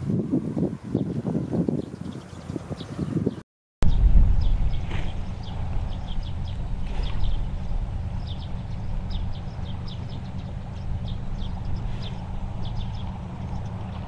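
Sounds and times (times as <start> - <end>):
wind buffeting microphone: 0.0 - 14.0
small birds chirping: 0.6 - 14.0.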